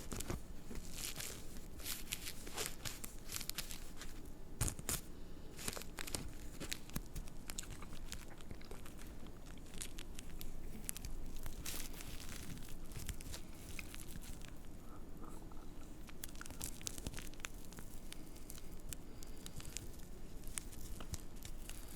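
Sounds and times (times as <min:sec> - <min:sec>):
paper and tobacco rustling: 0:00.0 - 0:14.8, 0:15.8 - 0:21.9.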